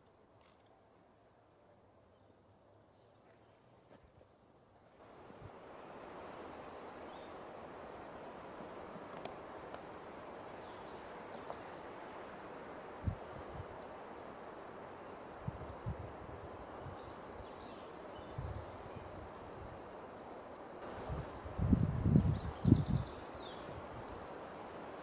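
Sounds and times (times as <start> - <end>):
steady rustling hiss: 3.6 - 25.0.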